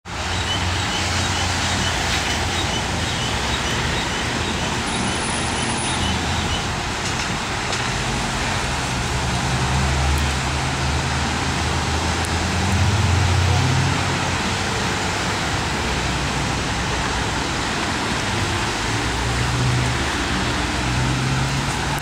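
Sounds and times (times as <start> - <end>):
traffic engine rumble: 0.0 - 22.0.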